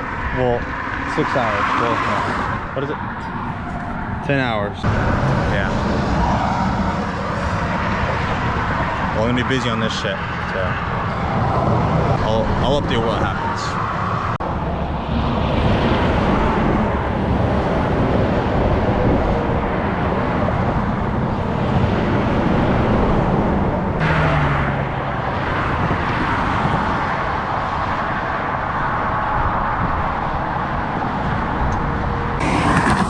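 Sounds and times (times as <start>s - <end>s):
passing vehicle: 0.0s - 33.0s
road traffic noise: 0.0s - 33.0s.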